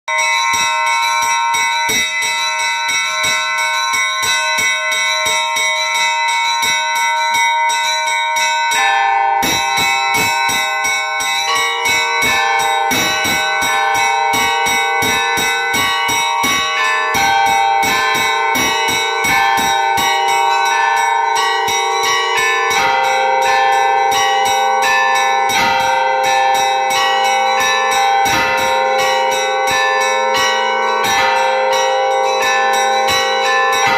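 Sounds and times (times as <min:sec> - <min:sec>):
church bells ringing a peal: 0:00.1 - 0:33.9.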